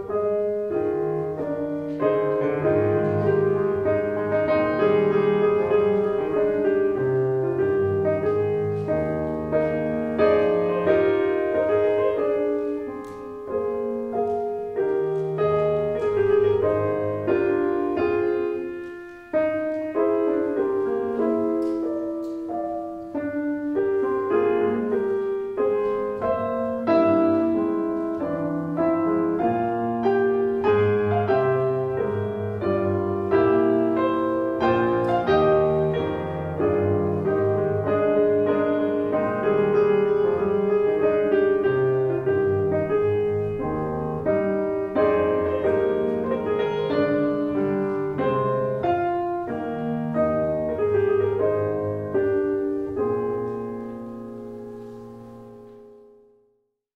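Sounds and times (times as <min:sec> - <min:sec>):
solo piano playing: 0:00.0 - 0:56.9.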